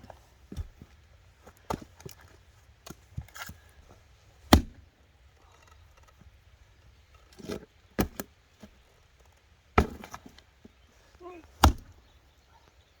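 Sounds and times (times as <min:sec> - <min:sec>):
axe splitting firewood: 0:00.0 - 0:12.1.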